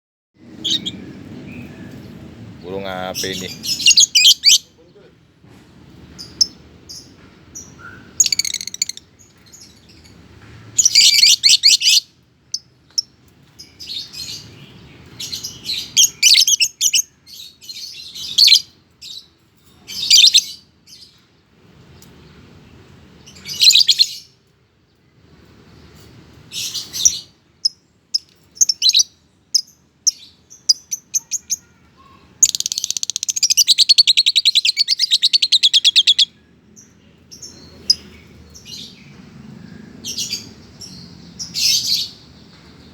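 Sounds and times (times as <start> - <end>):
lovebird chirping: 0.5 - 2.2, 3.2 - 4.7, 6.2 - 19.2, 23.2 - 24.3, 25.8 - 42.9.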